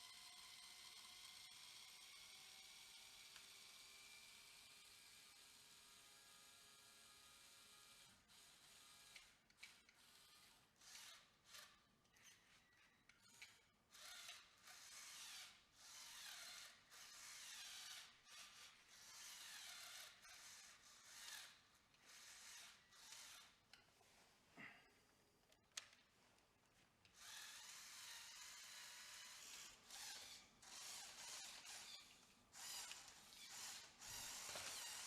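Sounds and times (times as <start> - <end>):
small electric motors whirring: 0.0 - 23.7, 27.1 - 35.0.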